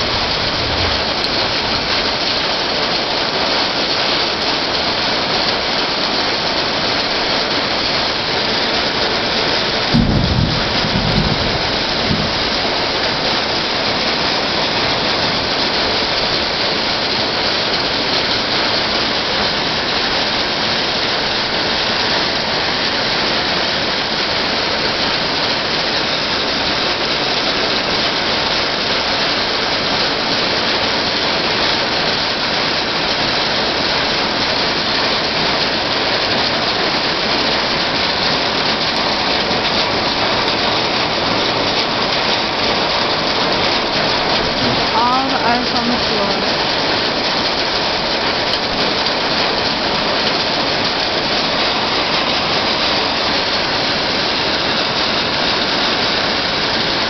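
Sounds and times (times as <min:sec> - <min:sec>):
heavy rain and hail on concrete: 0:00.0 - 0:57.0.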